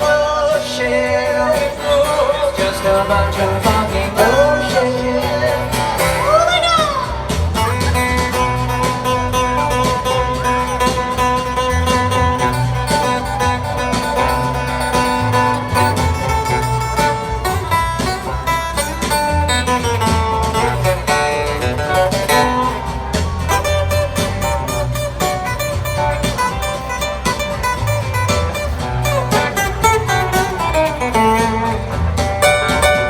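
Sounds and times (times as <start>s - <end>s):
bass line: 0.0s - 33.0s
plucked guitars: 0.0s - 33.0s.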